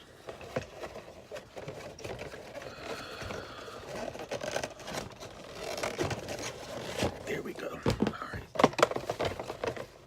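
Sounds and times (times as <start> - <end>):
plastic scraping cardboard: 0.0 - 10.0.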